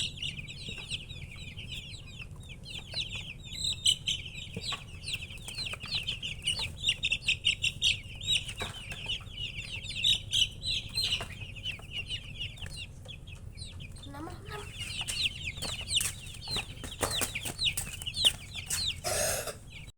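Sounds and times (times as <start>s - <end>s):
baby chicks peeping: 0.0s - 19.9s.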